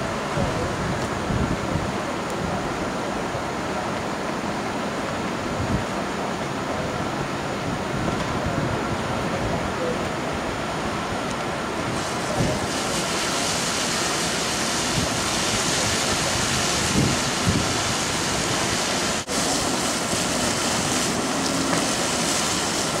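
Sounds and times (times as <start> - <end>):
wind rushing over microphone: 0.0 - 4.5, 5.2 - 23.0
low wind buffets: 0.0 - 23.0.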